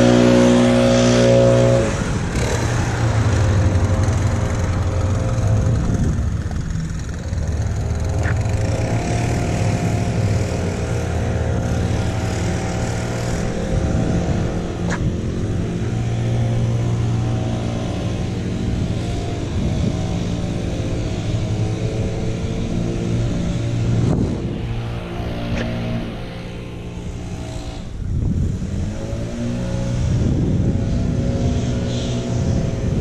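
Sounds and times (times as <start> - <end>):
small gasoline engine running: 0.0 - 33.0.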